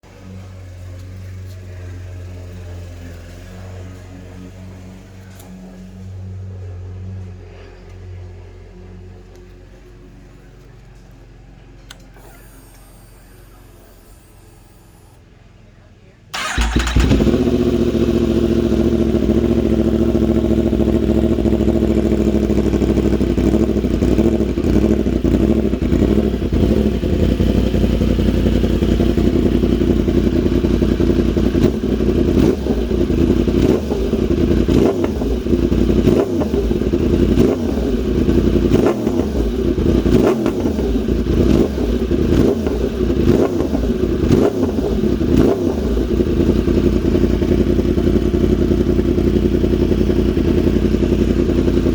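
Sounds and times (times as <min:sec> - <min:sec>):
motorcycle engine starting and idling: 0:00.0 - 0:51.9.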